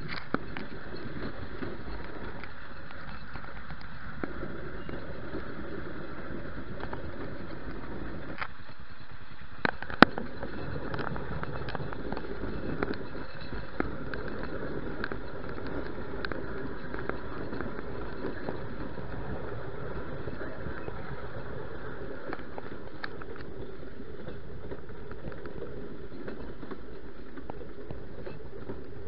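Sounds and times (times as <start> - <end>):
rumble of wheels on rail: 0.0 - 29.0.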